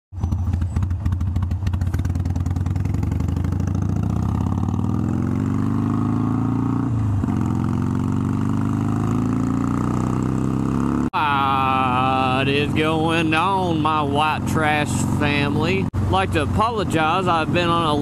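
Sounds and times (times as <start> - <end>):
motorcycle engine accelerating: 0.1 - 18.0.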